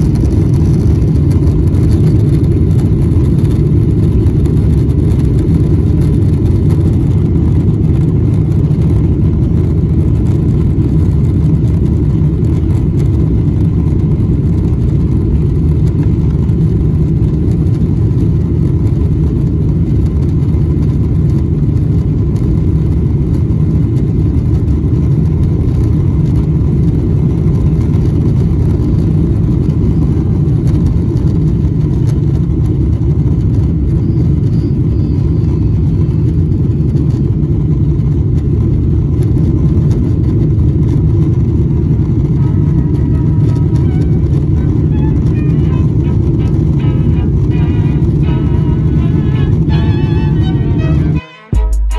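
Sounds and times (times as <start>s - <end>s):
airplane cabin engine drone: 0.0s - 51.9s.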